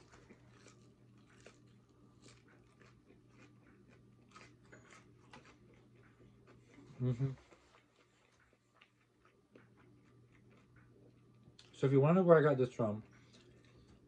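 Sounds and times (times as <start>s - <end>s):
crunchy chewing: 0.0s - 11.8s, 13.0s - 14.0s
low steady hum: 0.0s - 14.0s.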